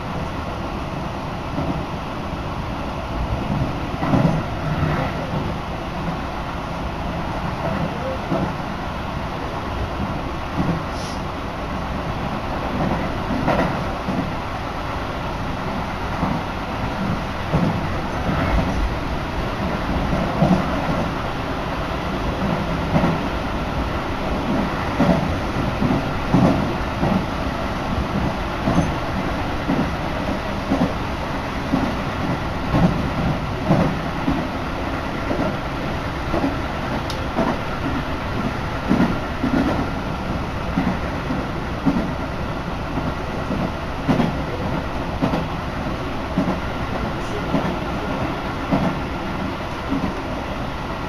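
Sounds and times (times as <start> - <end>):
train rumble: 0.0 - 51.0.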